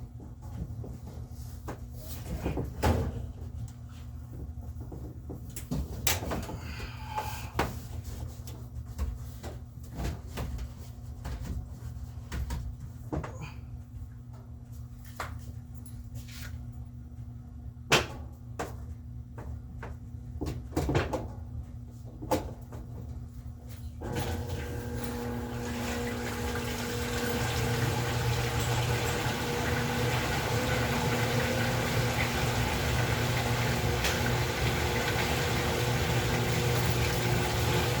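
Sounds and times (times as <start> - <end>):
washing machine humming: 0.0 - 38.0.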